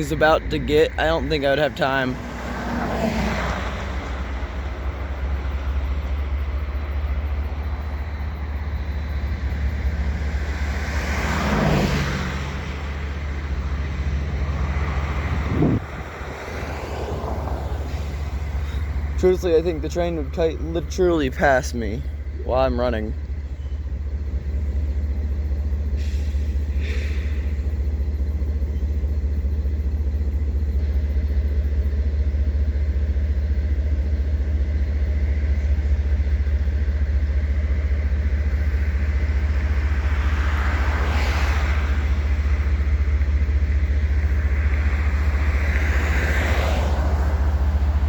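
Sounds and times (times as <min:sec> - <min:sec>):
diesel locomotives rumbling: 0:00.0 - 0:48.0
train rushing: 0:00.0 - 0:48.0.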